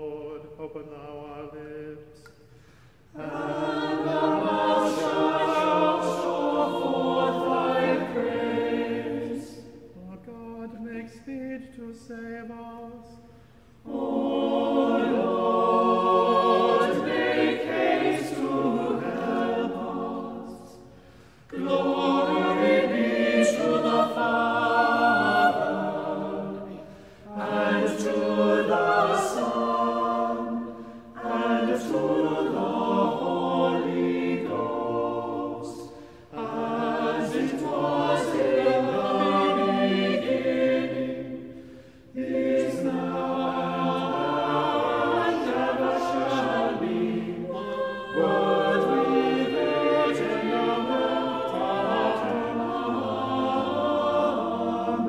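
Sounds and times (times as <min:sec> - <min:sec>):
choir chanting a cappella: 0:00.0 - 0:55.0.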